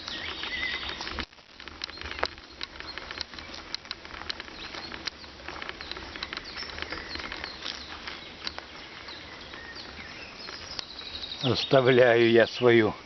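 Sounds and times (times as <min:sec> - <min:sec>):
light rustles: 0:00.0 - 0:12.3
birds chirping: 0:00.0 - 0:13.0.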